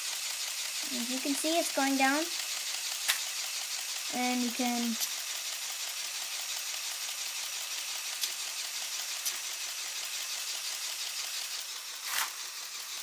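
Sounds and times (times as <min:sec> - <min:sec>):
small electric motor whirring: 0:00.0 - 0:13.0.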